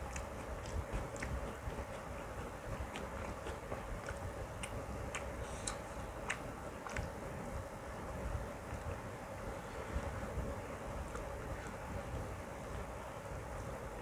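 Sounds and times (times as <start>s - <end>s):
person chewing with wet smacks: 0.0s - 13.0s
low background hum: 0.0s - 14.0s.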